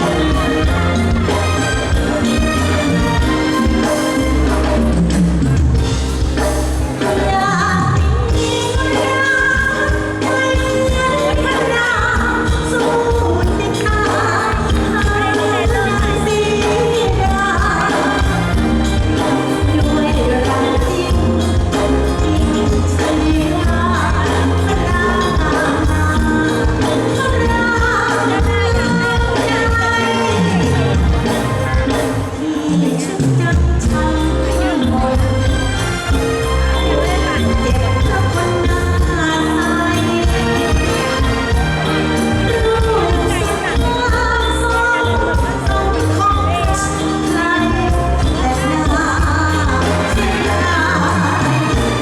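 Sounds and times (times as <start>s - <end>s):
band playing: 0.0s - 52.0s
person singing: 6.4s - 52.0s.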